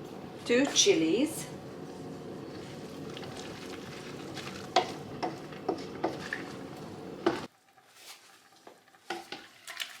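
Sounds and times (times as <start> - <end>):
spoon stirring and scraping a pan: 1.8 - 10.0.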